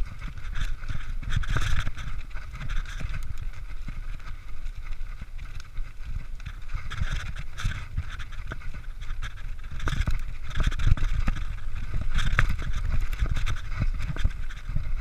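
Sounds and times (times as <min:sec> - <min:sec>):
bike rattling and clicking: 0:00.0 - 0:15.0
wind buffeting microphone: 0:00.0 - 0:15.0.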